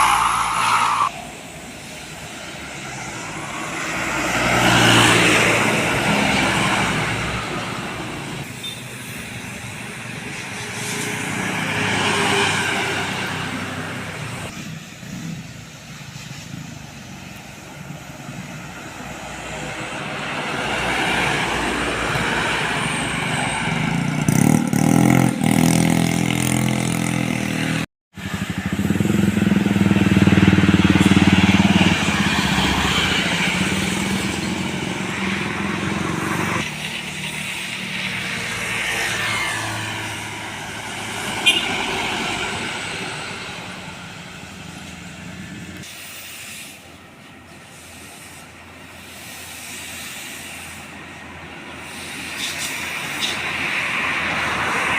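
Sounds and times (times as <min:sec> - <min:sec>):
heavy vehicles passing: 0:00.0 - 0:54.9.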